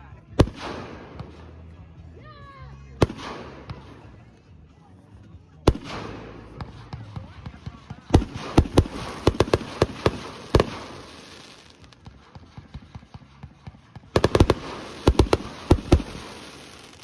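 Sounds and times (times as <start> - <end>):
faint fireworks crackling: 0.0 - 17.0
fireworks bangs: 0.4 - 1.7, 3.0 - 4.4, 5.7 - 17.0.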